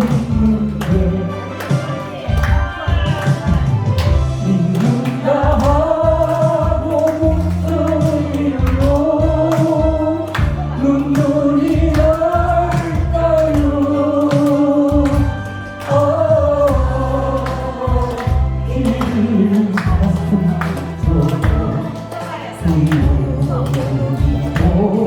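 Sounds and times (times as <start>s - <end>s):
backing music with steady beat: 0.0s - 25.0s
person singing: 0.0s - 25.0s.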